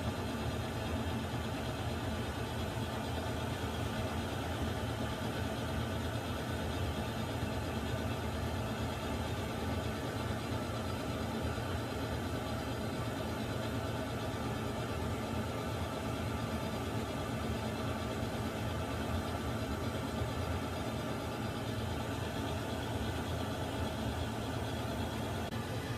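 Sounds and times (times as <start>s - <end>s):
water heater humming and hissing: 0.0s - 25.9s.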